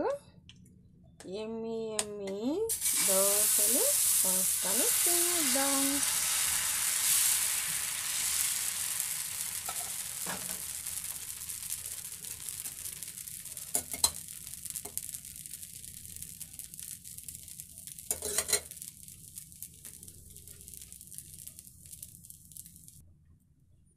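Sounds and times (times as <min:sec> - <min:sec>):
batter sizzling on griddle: 0:02.7 - 0:23.0.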